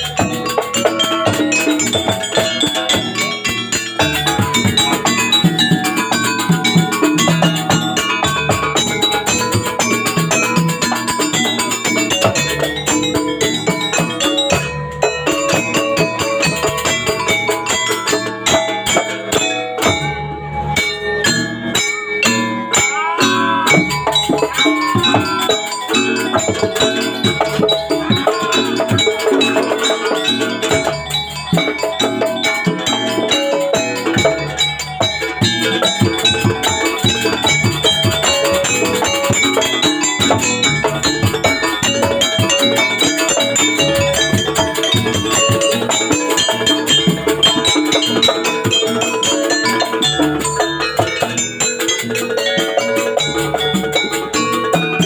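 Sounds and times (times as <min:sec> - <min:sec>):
steady drumming: 0:00.0 - 0:55.0
tuned metal percussion: 0:00.0 - 0:55.0.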